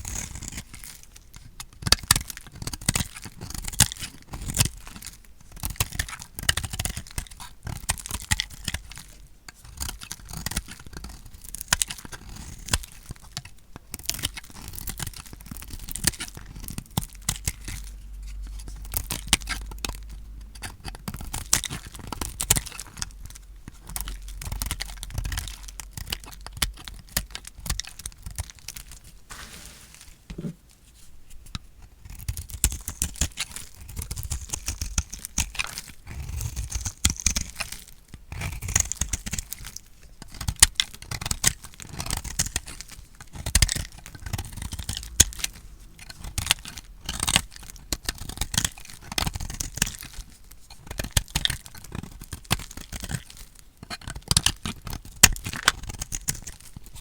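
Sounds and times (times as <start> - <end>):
knife crunching through soap: 0.0 - 1.0, 1.6 - 29.0, 31.6 - 57.0.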